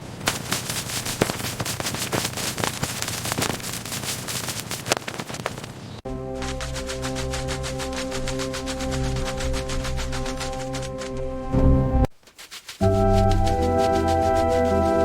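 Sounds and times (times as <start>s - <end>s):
cleaning crackles and clicks: 0.0s - 15.0s.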